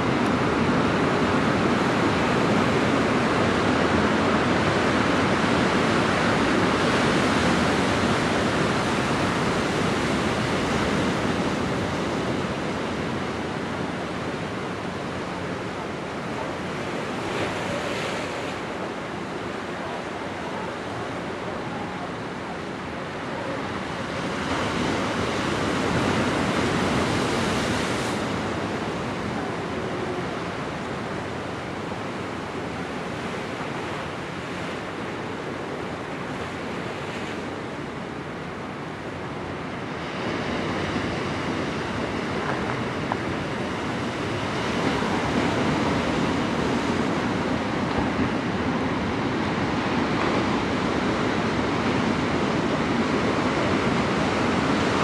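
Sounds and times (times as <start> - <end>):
waves breaking on sand: 0.0 - 55.0.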